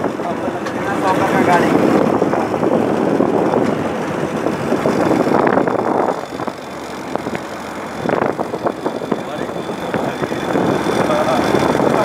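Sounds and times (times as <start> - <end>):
tractor engine rumble: 0.0 - 12.0.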